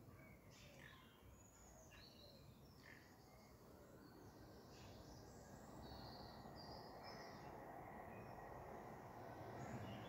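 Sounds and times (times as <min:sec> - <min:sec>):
faint high bird chirps: 0:00.0 - 0:08.5.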